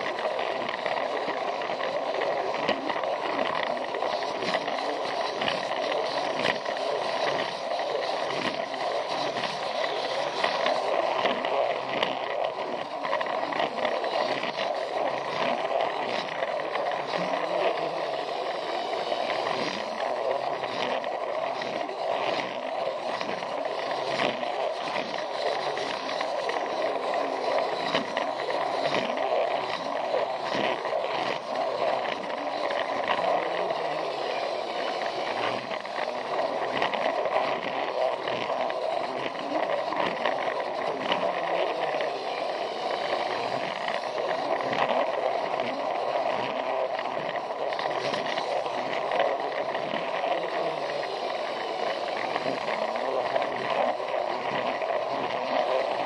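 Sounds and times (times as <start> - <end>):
toy train motor whirring: 0.0 - 56.0
wheels rattling on plastic track: 0.0 - 56.0.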